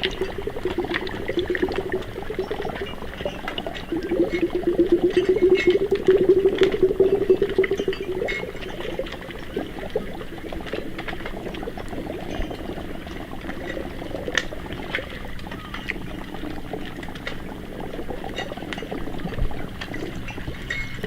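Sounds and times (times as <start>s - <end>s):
crackle of small pops: 0.0s - 21.0s
water bubbling: 0.0s - 21.0s.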